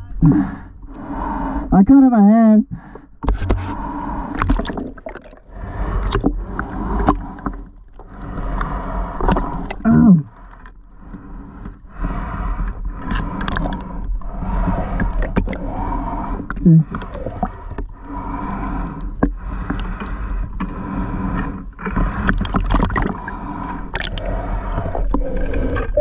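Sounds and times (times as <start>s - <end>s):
shallow water sloshing: 2.8s - 26.0s.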